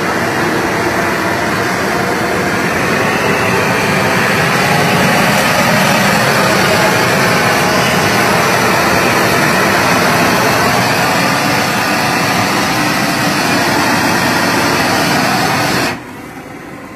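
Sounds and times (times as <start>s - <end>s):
torch flame jet roaring: 0.0s - 16.9s.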